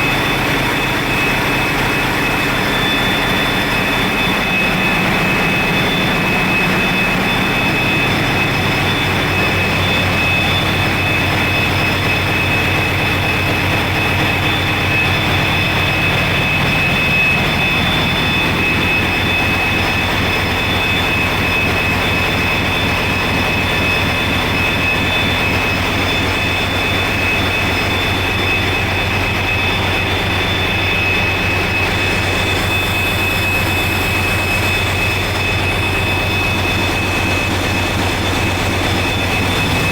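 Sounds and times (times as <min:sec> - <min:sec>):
diesel generator low hum: 0:00.0 - 0:39.9
high-pitched whine: 0:00.0 - 0:39.9.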